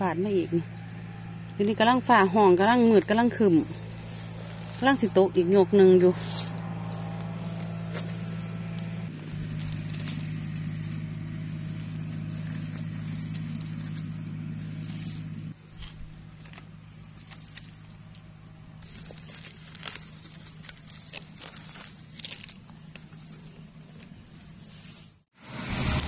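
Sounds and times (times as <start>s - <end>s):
low motor drone: 0.0s - 24.6s
dry leaves crackling underfoot: 3.0s - 25.1s.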